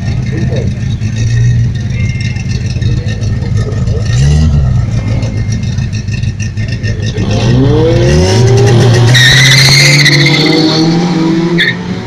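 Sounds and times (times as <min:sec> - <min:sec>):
car engine revving: 0:00.0 - 0:12.0
tire squeal: 0:00.3 - 0:12.0.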